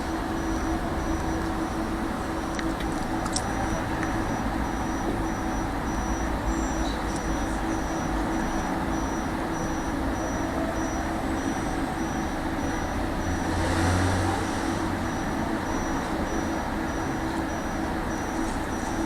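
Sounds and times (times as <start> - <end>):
tram running with motor hum: 0.0 - 19.0.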